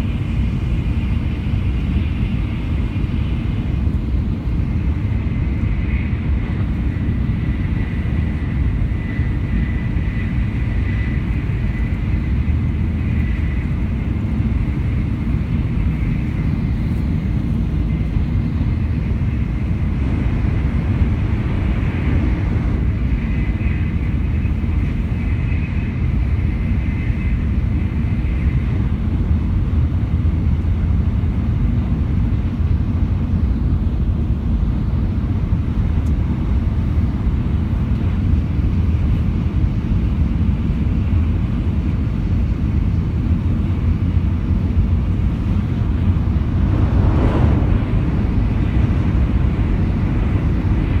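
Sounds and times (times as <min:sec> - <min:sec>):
train rushing: 0:00.0 - 0:33.6, 0:42.2 - 0:51.0
train rumbling at speed: 0:00.0 - 0:51.0.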